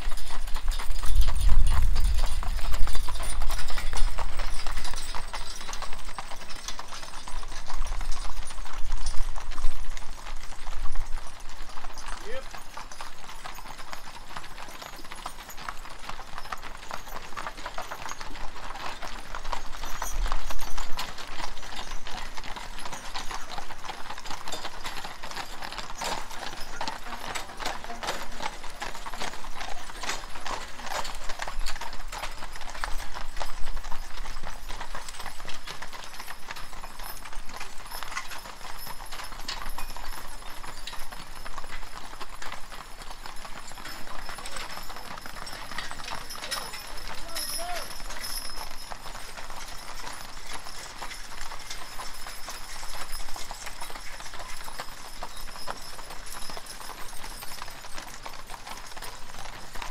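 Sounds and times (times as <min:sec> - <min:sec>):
hooves clip-clopping on pavement: 0:00.0 - 0:59.9.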